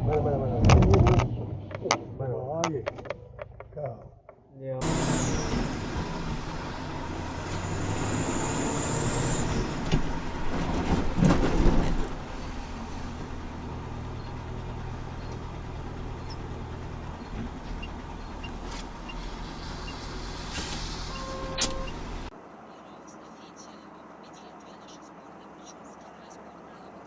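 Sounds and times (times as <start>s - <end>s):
road noise: 0.0s - 27.0s
vehicle engine: 0.0s - 27.0s.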